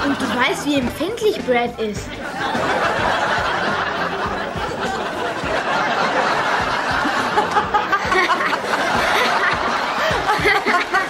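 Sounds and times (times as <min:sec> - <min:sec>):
audience laughing: 0:00.0 - 0:00.8, 0:02.1 - 0:11.0.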